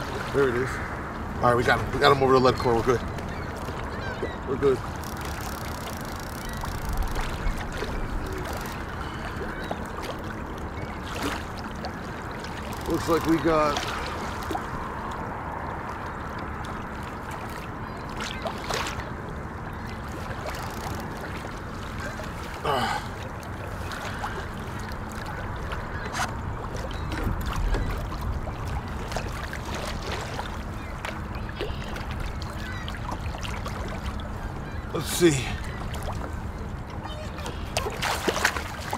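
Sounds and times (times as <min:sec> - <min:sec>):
water lapping: 0:00.0 - 0:38.9
wind: 0:00.0 - 0:38.9.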